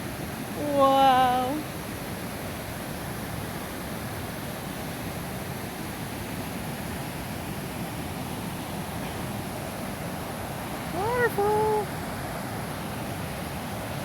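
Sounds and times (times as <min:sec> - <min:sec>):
creek rushing: 0:00.0 - 0:14.0.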